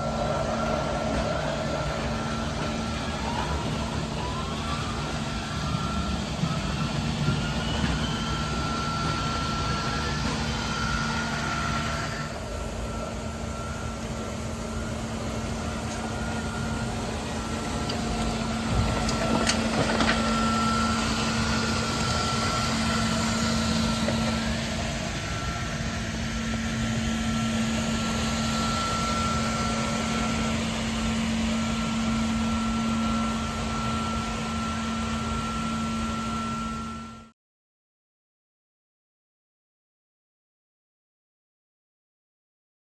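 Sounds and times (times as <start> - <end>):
floor scrubber machine hum: 0.0 - 37.3.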